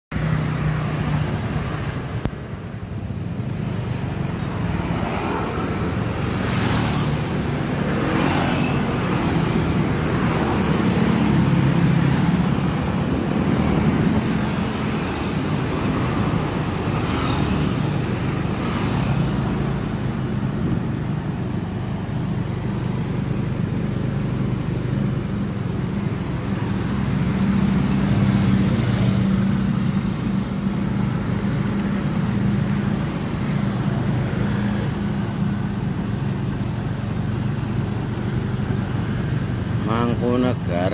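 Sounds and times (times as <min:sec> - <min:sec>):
vehicles passing: 0:00.1 - 0:40.9
wind and road noise: 0:00.1 - 0:40.9.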